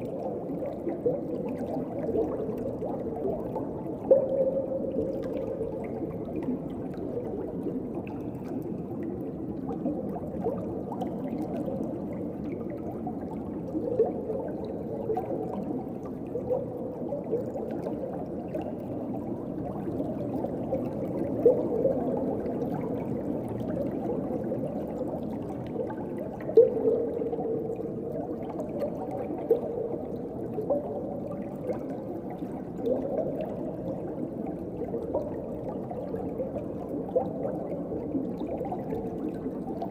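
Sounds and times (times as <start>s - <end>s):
bubbling gurgles: 0.0s - 39.9s
muffled underwater water wash: 0.0s - 39.9s.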